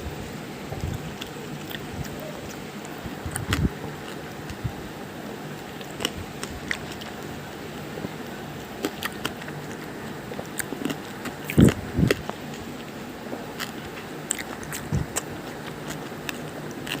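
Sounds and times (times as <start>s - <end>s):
crisp clicking and crackling: 0.7s - 4.8s, 5.5s - 17.0s.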